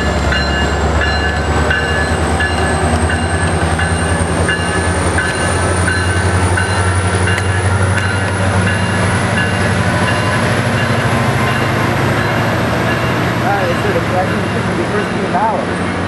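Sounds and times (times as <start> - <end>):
diesel locomotive engine drone: 0.0 - 16.0
train bell ringing: 0.0 - 16.0.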